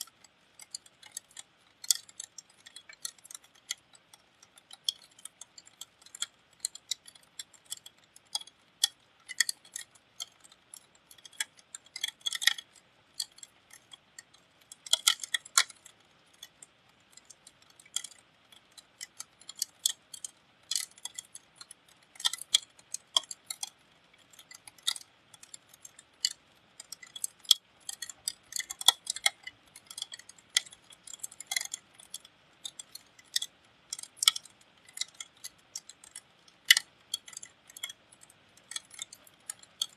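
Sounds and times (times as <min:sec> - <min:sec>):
rain dripping on hard surface: 0:00.0 - 0:39.9.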